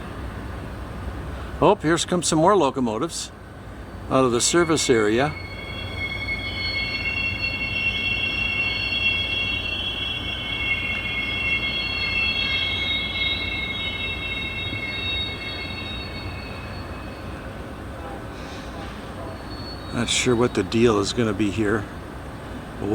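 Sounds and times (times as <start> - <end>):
train wheels squealing: 3.7 - 22.9.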